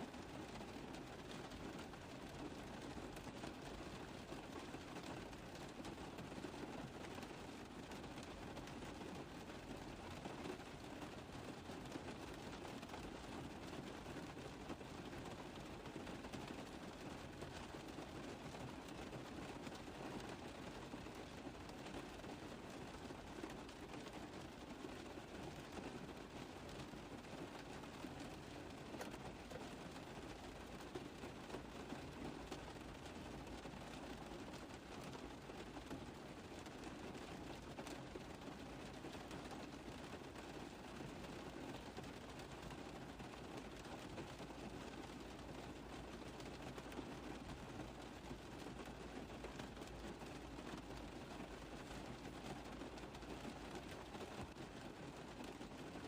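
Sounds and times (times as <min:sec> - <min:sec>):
rain falling on a car roof: 0:00.0 - 0:56.0.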